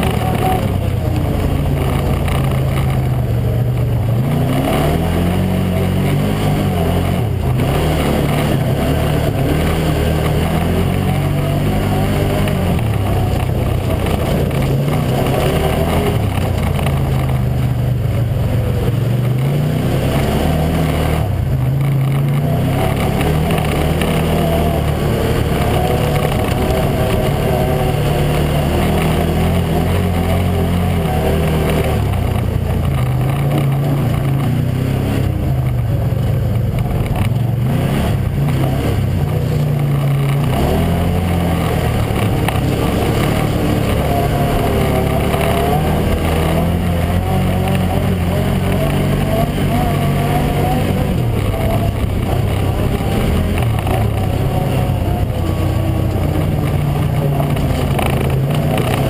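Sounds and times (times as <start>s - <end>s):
engine revving under load: 0.0s - 59.0s.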